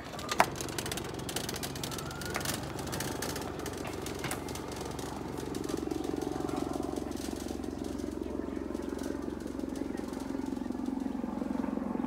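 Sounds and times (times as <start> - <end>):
engine with pulsing rattle: 0.0 - 12.0.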